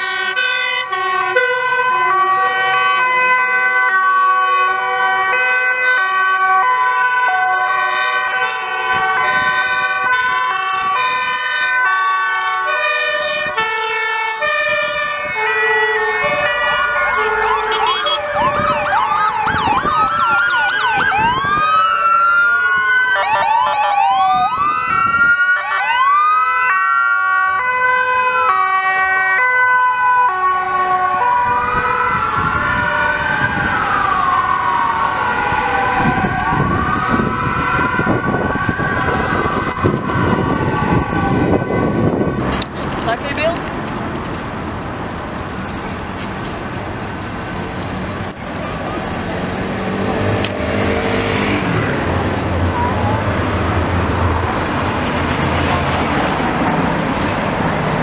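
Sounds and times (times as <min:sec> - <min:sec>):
two-tone sirens: 0:00.0 - 0:58.0
wailing sirens: 0:00.0 - 0:58.0.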